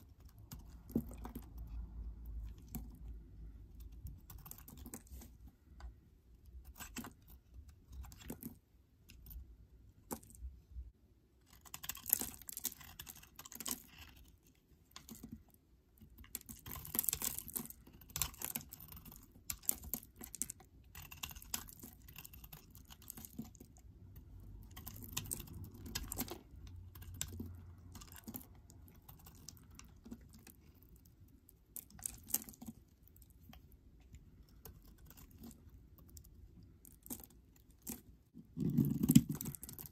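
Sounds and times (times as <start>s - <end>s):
knife scraping soap: 3.8s - 9.4s, 11.4s - 31.1s, 31.7s - 39.9s.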